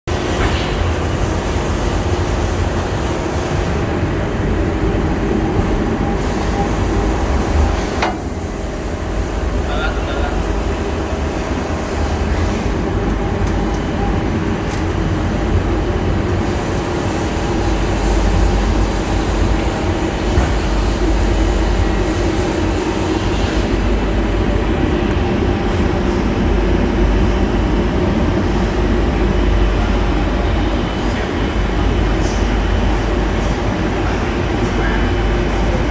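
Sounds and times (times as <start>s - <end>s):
machinery rumbling and humming: 0.1s - 35.9s.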